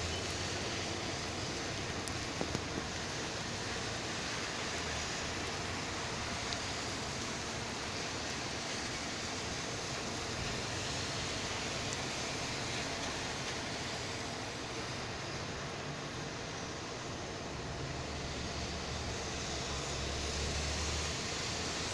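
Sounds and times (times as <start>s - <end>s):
steady rainfall: 0.0s - 21.9s.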